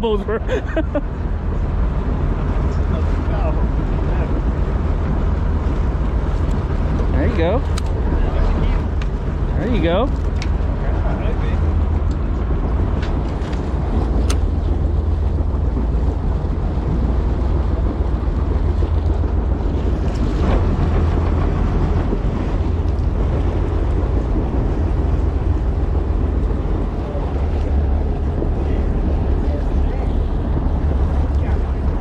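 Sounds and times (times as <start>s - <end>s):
water and boat noise: 0.0s - 32.0s
wind buffeting microphone: 0.0s - 32.0s.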